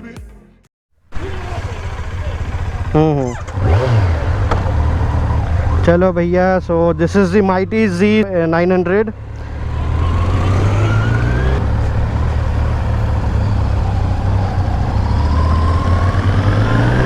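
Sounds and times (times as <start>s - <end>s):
motorcycle engine accelerating: 1.1s - 17.0s.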